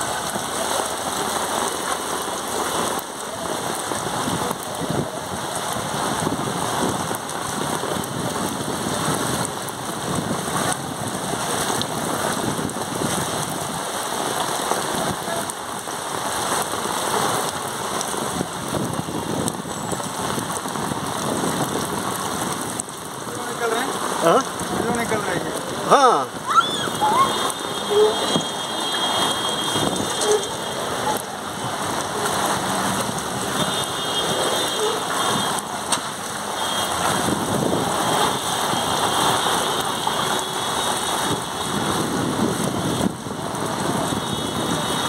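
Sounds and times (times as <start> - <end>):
heavy rain on flooded street: 0.0 - 45.0.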